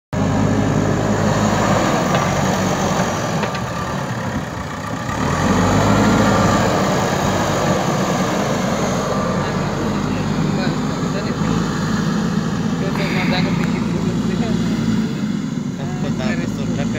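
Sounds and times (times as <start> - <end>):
diesel engine running: 0.1 - 16.9.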